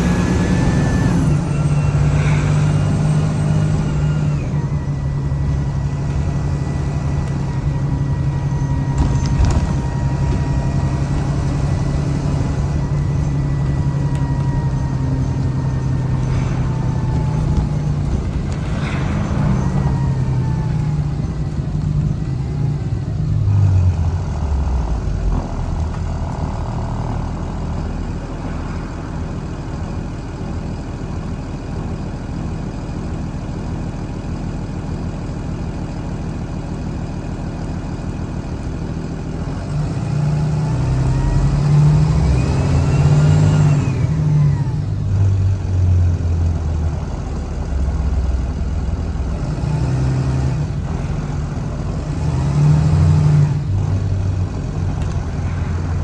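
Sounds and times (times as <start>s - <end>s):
rising engine whine: 0.0s - 30.8s, 39.4s - 56.0s
bus engine running: 0.0s - 56.0s.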